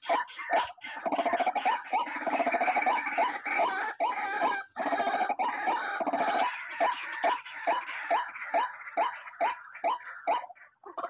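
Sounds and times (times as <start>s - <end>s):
bird harsh croaking calls: 0.0s - 11.0s.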